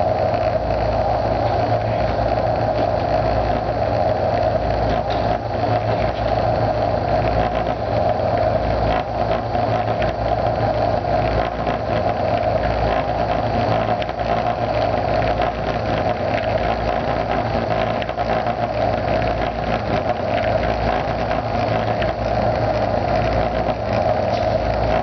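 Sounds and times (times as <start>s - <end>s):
loud buzzing drone: 0.0s - 25.0s.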